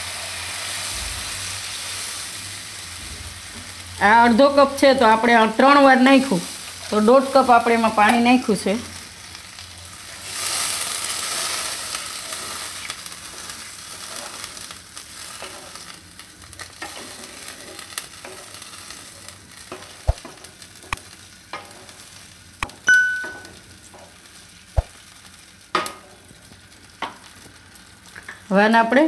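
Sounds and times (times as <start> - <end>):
leaves sizzling in oil: 0.0 - 29.0.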